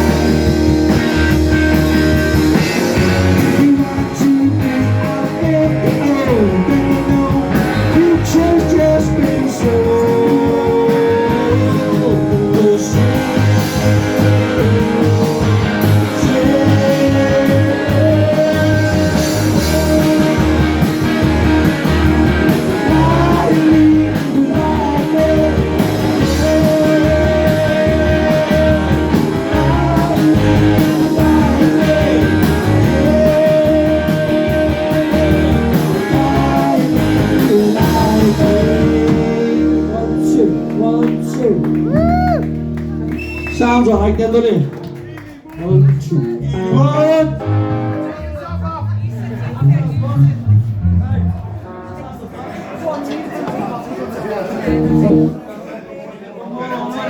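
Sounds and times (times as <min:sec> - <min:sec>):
bass and drum beat: 0:00.0 - 0:45.0, 0:45.7 - 0:51.5, 0:54.7 - 0:55.4
electric guitar lead lines: 0:00.0 - 0:45.0, 0:46.2 - 0:52.0, 0:54.7 - 0:55.4.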